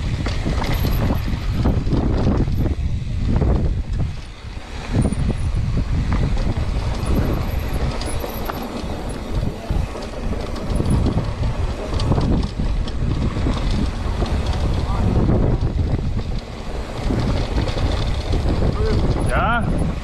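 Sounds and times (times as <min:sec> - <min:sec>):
bike rattling and clicking: 0:00.0 - 0:20.0
tyres rumbling on loose dirt: 0:00.0 - 0:20.0
wind buffeting microphone: 0:00.0 - 0:20.0.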